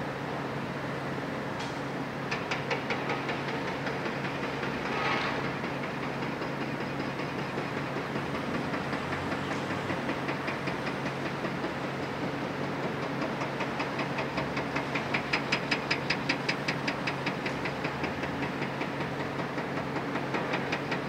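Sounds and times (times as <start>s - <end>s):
excavator diesel engine running: 2.4s - 21.0s.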